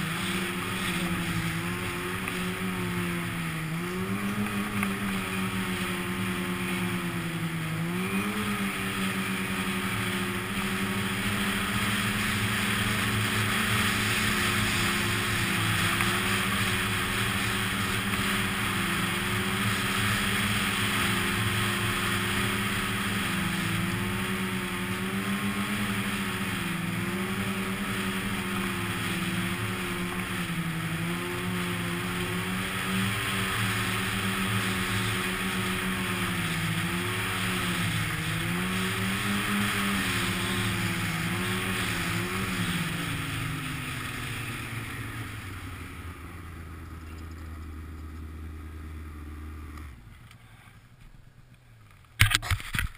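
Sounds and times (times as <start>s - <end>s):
snowmobile engine running: 0.0s - 50.8s.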